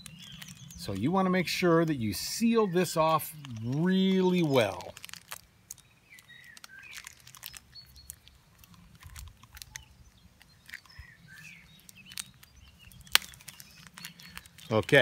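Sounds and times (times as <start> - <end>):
birds chirping: 0.0 - 15.0
plastic wrap and tape crinkling: 0.0 - 15.0.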